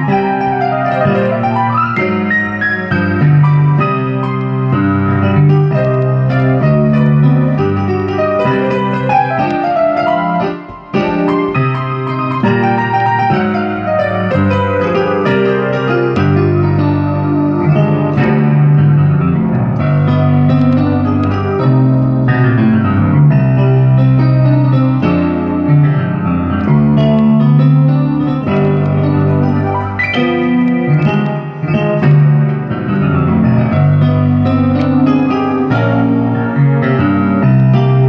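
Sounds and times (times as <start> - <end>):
piano keyboard playing: 0.0 - 38.0.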